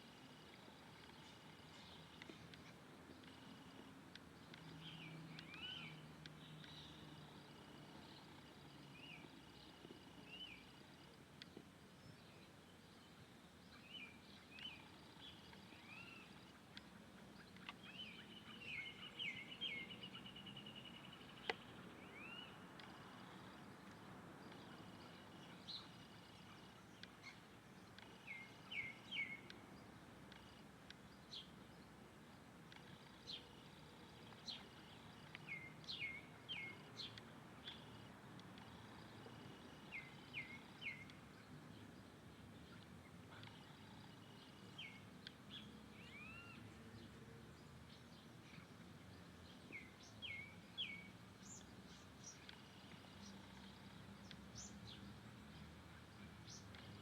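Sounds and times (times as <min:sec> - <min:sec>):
birds chirping: 0:00.0 - 0:57.0
faint steady hiss: 0:00.0 - 0:57.0.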